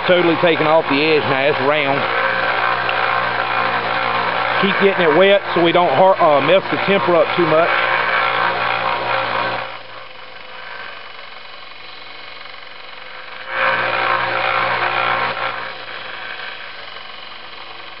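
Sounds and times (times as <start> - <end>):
belt sander running: 0.0 - 18.0
blade grinding on sander belt: 0.0 - 18.0.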